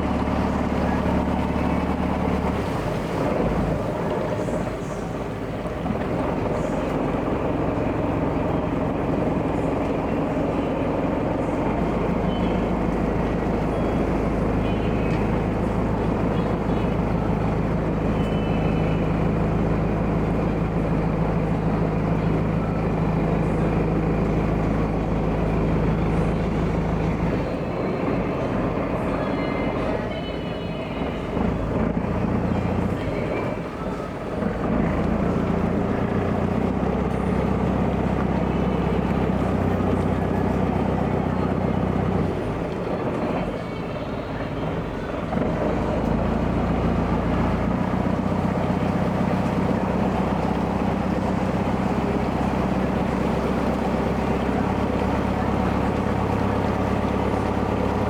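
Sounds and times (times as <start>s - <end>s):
ferry boat engine droning: 0.0s - 58.0s.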